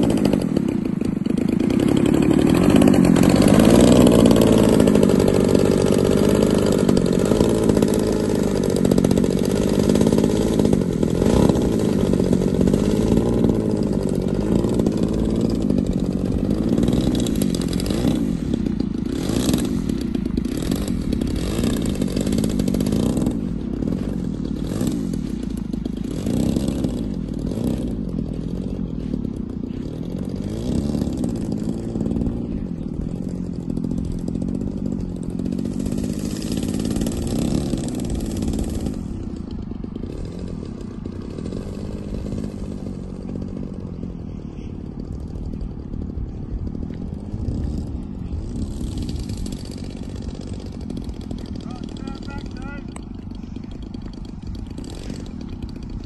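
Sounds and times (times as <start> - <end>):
model airplane engine: 0.0 - 56.0.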